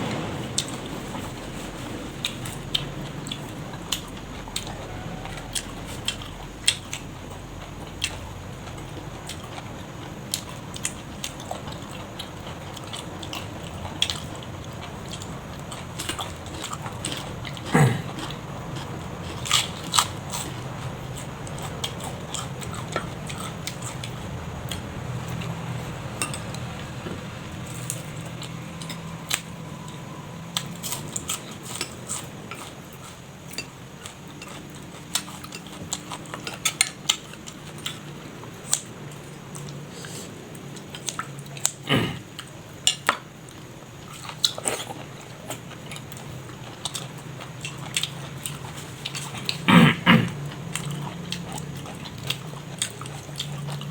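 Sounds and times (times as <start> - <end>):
low steady hum: 0.0 - 53.9
chewing and biting: 2.2 - 30.0, 30.6 - 53.9.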